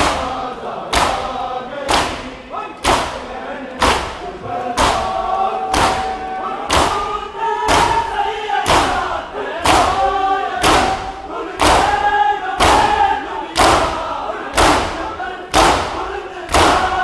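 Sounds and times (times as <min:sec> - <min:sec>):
crowd beating chests in unison: 0:00.0 - 0:17.0
men singing a lament: 0:00.0 - 0:17.0.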